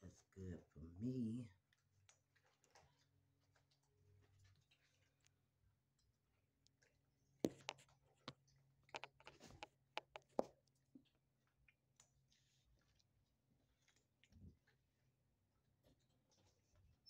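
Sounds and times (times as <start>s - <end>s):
kitten eating from plastic bowl: 1.6s - 16.8s.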